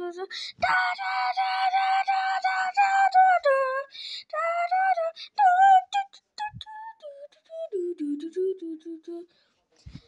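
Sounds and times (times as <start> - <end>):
high-pitched voice singing: 0.0 - 9.3.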